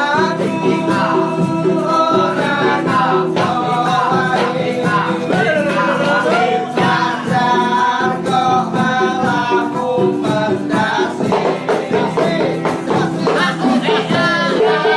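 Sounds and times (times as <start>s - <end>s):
music with singing voices: 0.0s - 14.9s.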